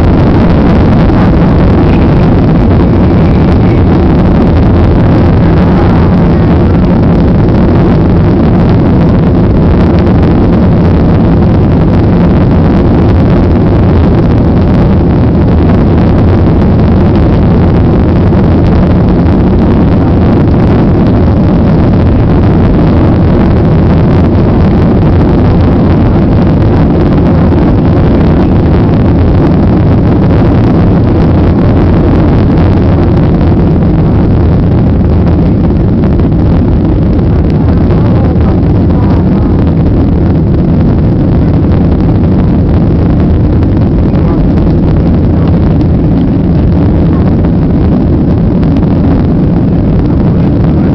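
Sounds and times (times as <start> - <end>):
jet engines at takeoff power: 0.0 - 50.9.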